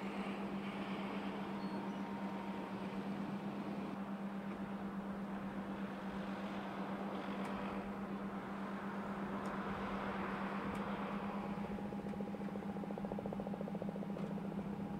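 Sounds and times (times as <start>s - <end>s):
mechanical drone: 0.0s - 14.9s.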